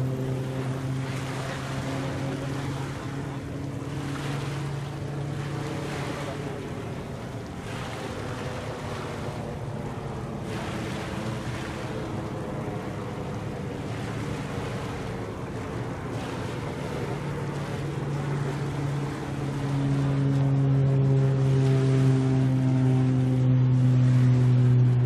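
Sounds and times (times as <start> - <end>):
low engine hum: 0.0 - 25.0
water washing: 0.0 - 25.0.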